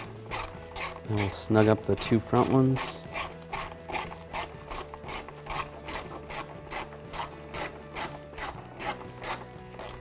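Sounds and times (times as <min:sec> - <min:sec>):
hand ratchet clicking: 0:00.0 - 0:10.0.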